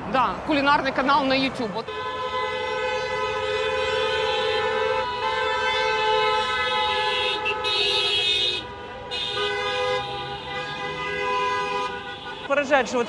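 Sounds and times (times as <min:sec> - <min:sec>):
car horns honking: 0:01.8 - 0:13.0.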